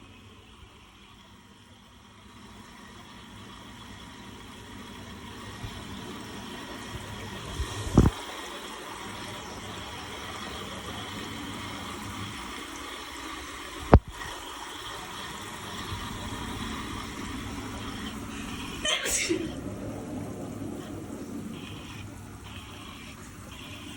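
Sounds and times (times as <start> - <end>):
shower water spraying: 2.3 - 23.9.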